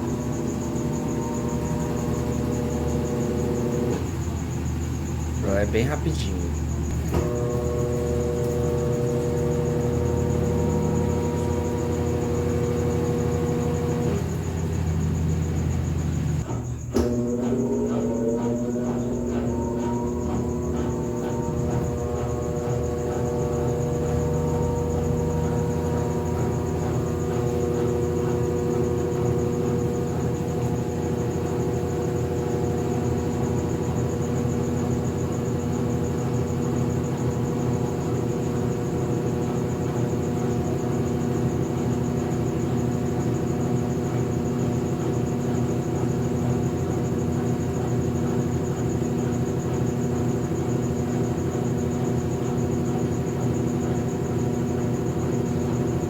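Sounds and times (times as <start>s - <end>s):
washing machine running: 0.0s - 56.0s.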